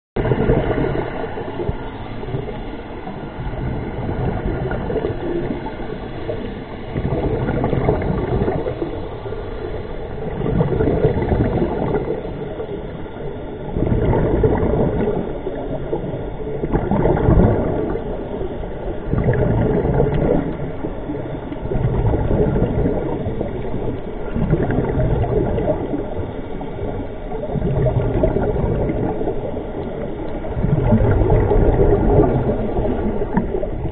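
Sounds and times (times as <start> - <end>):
regulator bubbles gurgling: 0.2 - 33.9
underwater water noise: 0.2 - 33.9.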